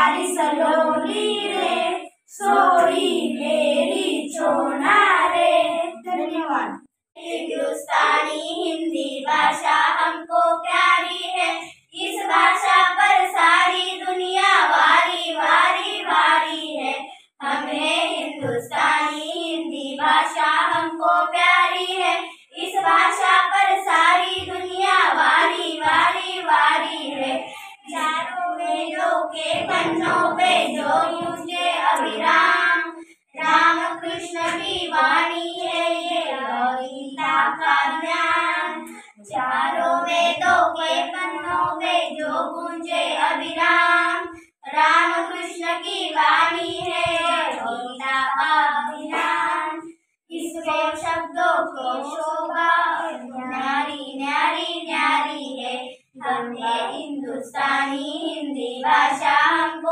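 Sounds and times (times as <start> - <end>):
girls singing together: 0.0 - 59.9.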